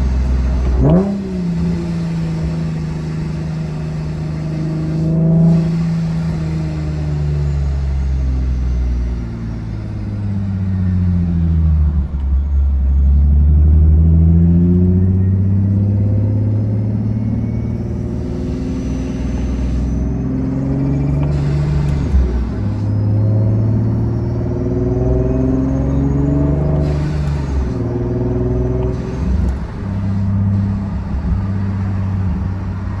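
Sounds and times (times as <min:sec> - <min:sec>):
car engine revving through gears: 0:00.0 - 0:33.0.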